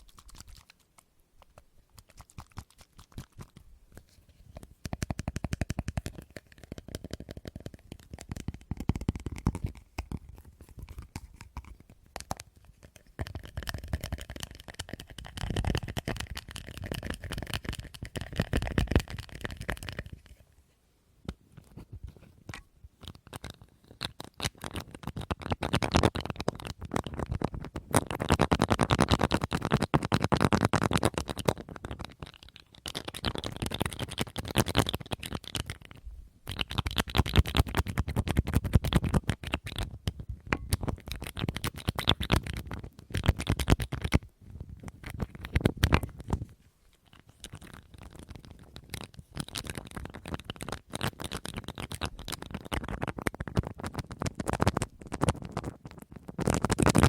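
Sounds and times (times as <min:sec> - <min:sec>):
tapping and scratching on an object: 0:00.0 - 0:20.5, 0:21.3 - 0:57.0.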